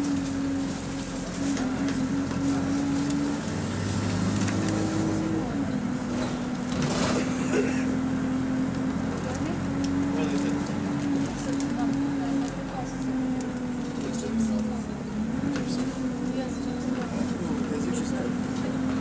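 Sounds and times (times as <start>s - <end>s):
bus diesel engine humming: 0.0s - 19.0s
bus interior rattles: 0.0s - 19.0s.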